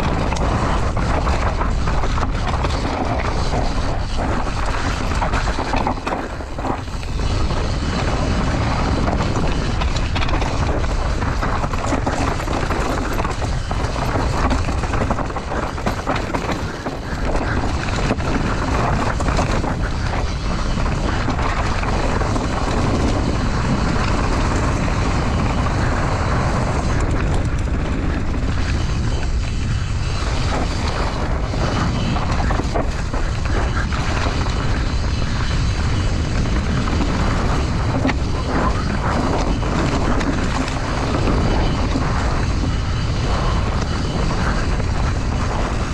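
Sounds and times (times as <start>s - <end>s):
bike knocks and rattles: 0.0s - 45.8s
wind rumbling on microphone: 0.0s - 45.9s.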